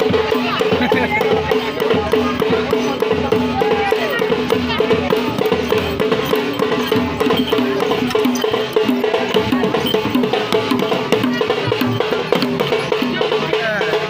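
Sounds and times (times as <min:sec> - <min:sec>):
fast steady drumming: 0:00.0 - 0:14.0
voices: 0:00.0 - 0:14.0.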